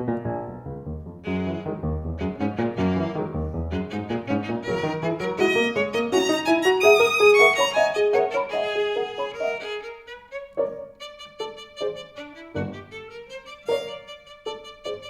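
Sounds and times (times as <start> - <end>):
instrumental melodic notes: 0.0 - 15.0.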